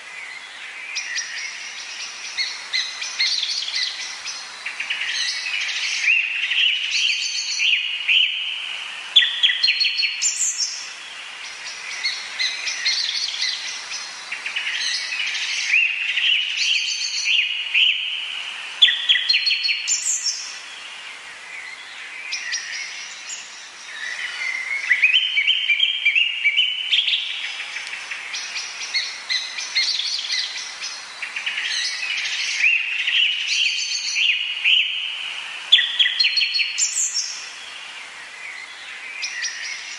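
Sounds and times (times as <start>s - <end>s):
birds chirping in chorus: 0.0s - 39.9s.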